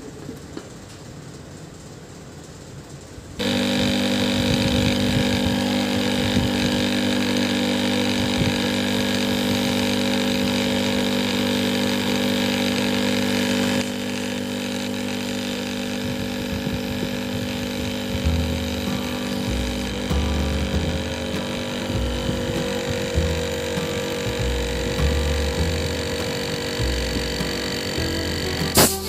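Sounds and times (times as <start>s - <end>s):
compressor electric hum: 2.2s - 29.0s.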